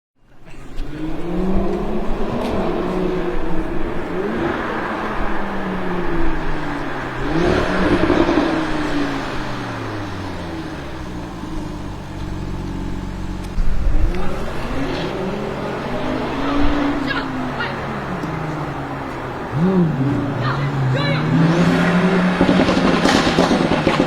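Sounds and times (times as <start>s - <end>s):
car engine revving: 0.3s - 24.0s.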